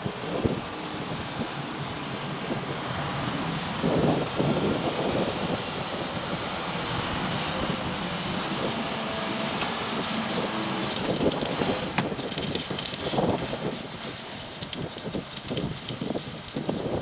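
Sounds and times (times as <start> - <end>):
diesel engine running: 0.0 - 17.0
wind noise on microphone: 0.0 - 17.0.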